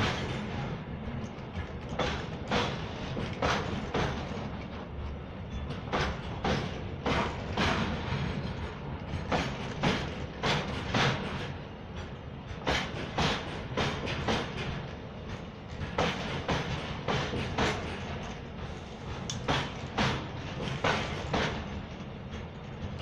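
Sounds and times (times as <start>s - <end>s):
freight train rumbling: 0.0s - 23.0s
wheels clacking over rail joints: 0.0s - 23.0s.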